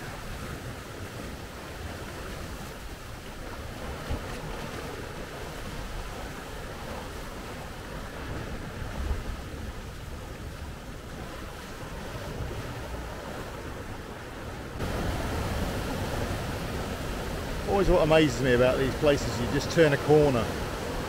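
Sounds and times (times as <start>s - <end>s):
wind rumble on microphone: 0.0s - 17.8s
surf washing against rocks: 0.0s - 21.0s.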